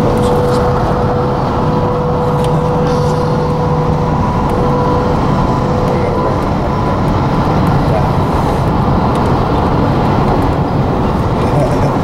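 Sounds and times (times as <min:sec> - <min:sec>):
road and traffic noise: 0:00.0 - 0:12.0
steady whine: 0:00.0 - 0:12.0.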